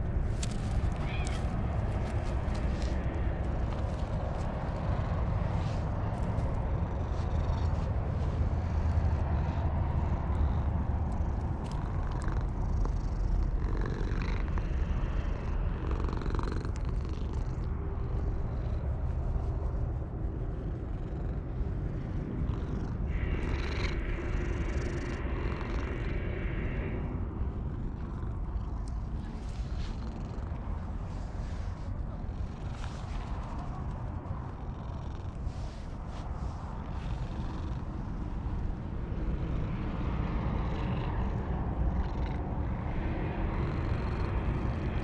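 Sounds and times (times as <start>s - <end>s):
cat purring: 0.0s - 45.0s.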